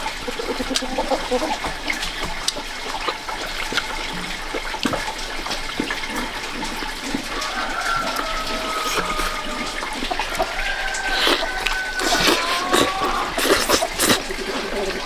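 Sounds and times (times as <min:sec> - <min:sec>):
splashing running water: 0:00.0 - 0:15.0.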